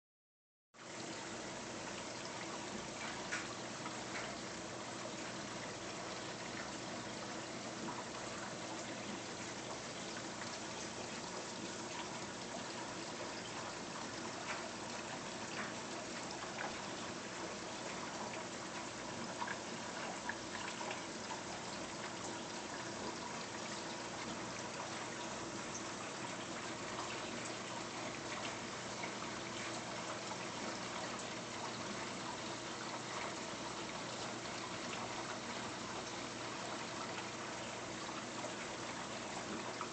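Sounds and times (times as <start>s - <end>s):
faint steady hum: 0.8s - 39.9s
water trickling and splashing: 0.8s - 39.9s.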